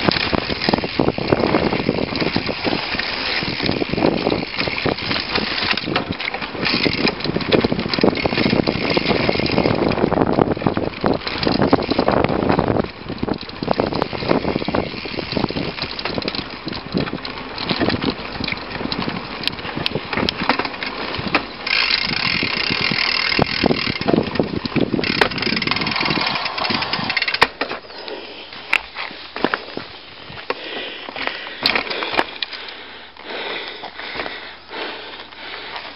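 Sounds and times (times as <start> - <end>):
bike knocks and rattles: 0.0 - 28.0, 28.6 - 32.5
bike tyre rumble on dirt: 0.0 - 35.9
hissing wind: 0.0 - 35.9.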